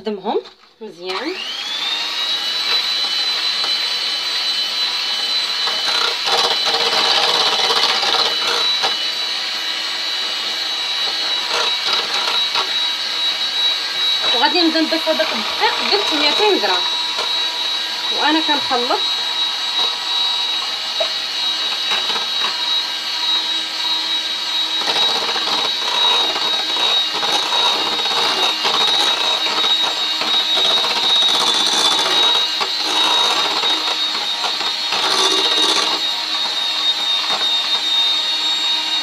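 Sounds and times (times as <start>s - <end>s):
electric hand mixer whirring: 0.0s - 39.0s.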